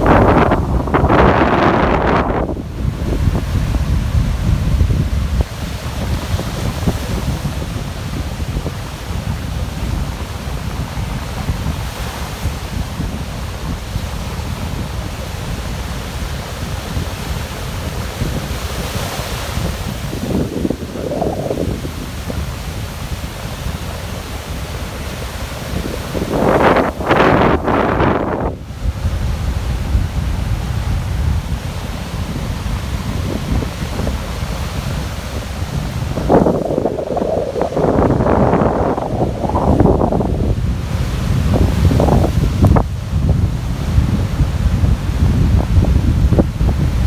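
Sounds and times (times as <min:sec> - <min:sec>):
surf rushing: 0:00.0 - 0:47.0
wind buffeting microphone: 0:00.0 - 0:47.0.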